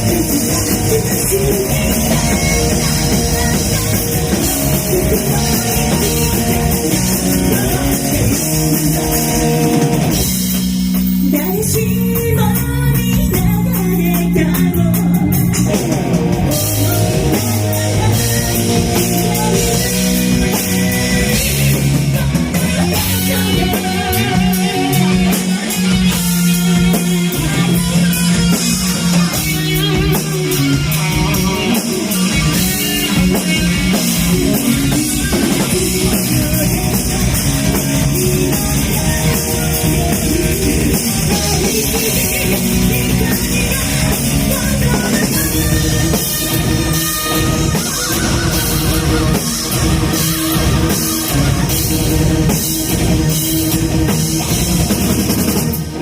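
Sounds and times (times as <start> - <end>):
bass guitar: 0.0 - 56.0
distorted electric guitars: 0.0 - 56.0
drum kit: 0.0 - 56.0.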